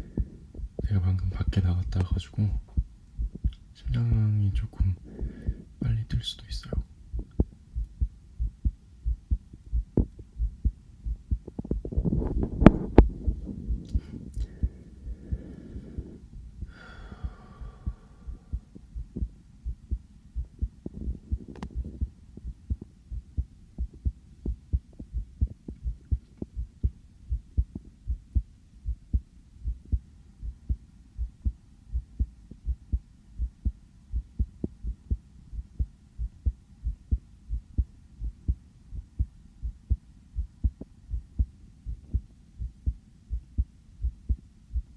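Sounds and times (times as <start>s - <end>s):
heartbeat through stethoscope: 0.0s - 5.8s, 7.1s - 44.9s.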